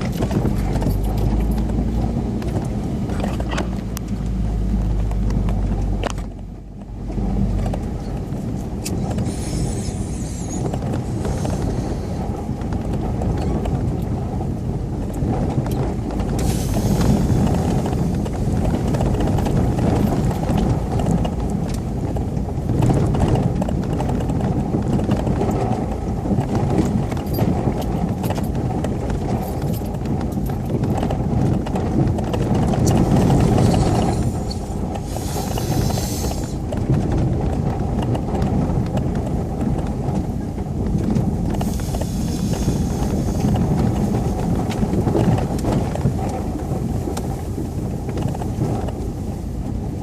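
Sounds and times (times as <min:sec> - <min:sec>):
off-road vehicle engine rumble: 0:00.0 - 0:50.0.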